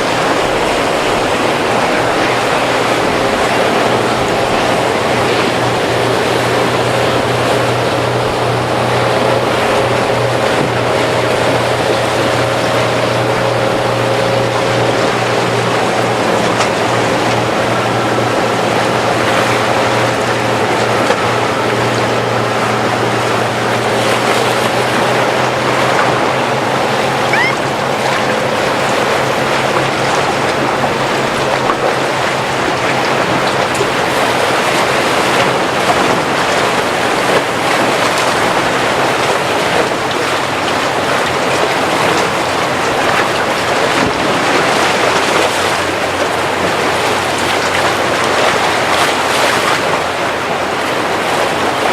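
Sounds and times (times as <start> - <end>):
rushing water and waves: 0.0 - 51.9
speedboat engine: 0.0 - 51.9.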